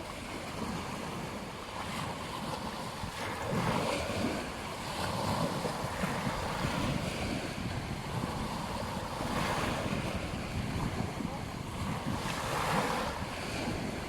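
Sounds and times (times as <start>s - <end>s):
waves washing onto beach: 0.0s - 14.0s
wind on microphone: 0.0s - 14.0s.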